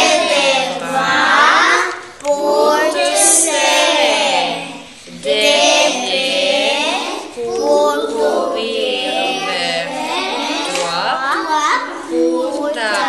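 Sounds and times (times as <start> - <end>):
young voices singing: 0.0 - 13.0.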